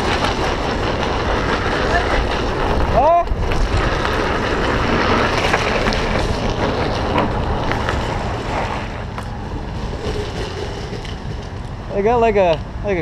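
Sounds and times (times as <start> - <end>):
wheels rolling on asphalt: 0.0 - 13.0
wind rushing over microphone: 0.0 - 13.0.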